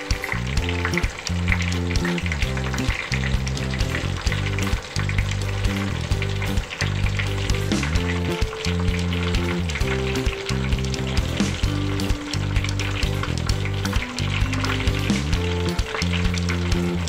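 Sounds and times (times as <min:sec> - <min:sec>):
background music low notes: 0:00.0 - 0:17.0
fish frying in hot oil: 0:00.0 - 0:17.0.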